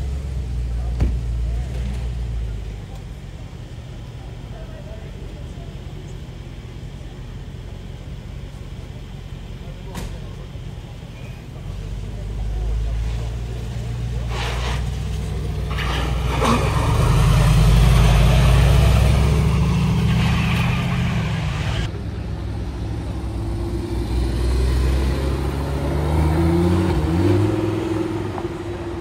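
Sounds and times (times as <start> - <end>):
car engine accelerating: 5.5 - 29.0.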